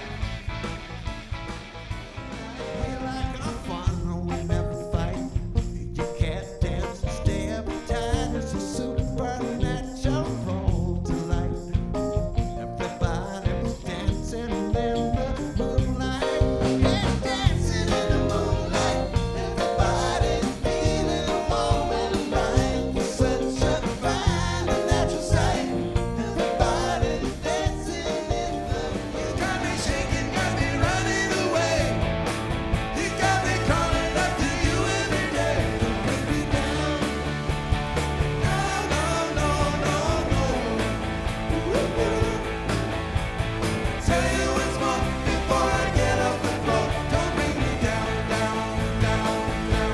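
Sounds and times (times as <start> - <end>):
band playing with singing: 0.0 - 49.9.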